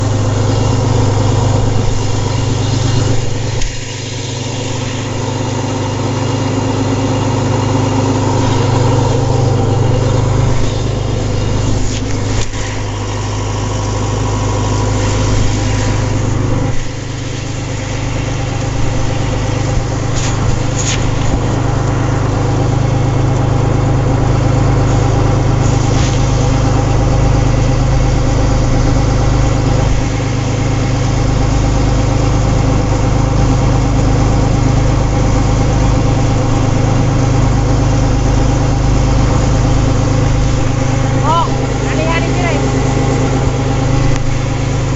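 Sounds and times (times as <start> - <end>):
farm machinery engine running: 0.0 - 44.9.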